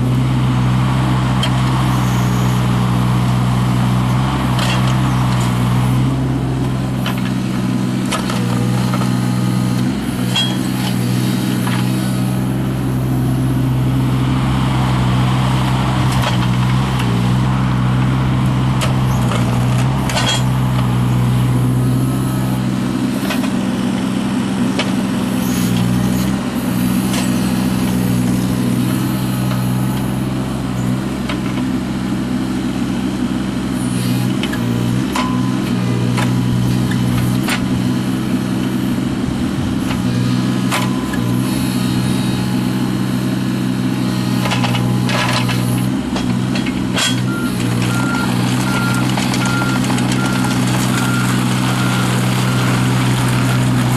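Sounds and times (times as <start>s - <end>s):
small diesel engine working: 0.0s - 53.9s.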